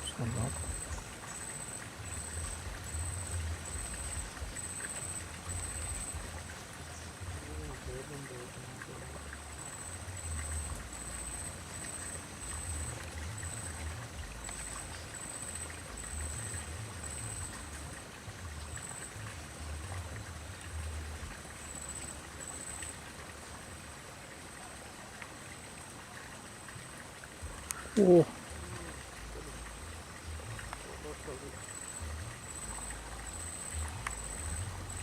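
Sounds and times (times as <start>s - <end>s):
low uneven rumble: 0.0s - 25.9s, 26.5s - 35.0s
river water flowing: 0.0s - 35.0s.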